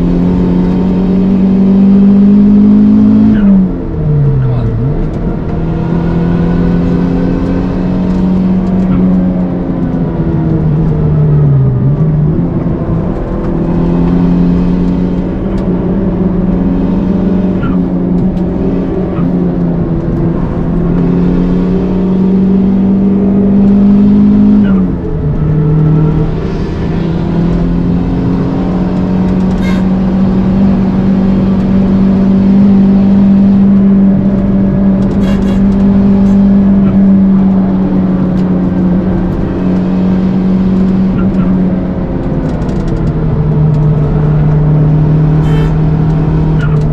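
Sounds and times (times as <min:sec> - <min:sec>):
car engine revving high: 0:00.0 - 0:46.9.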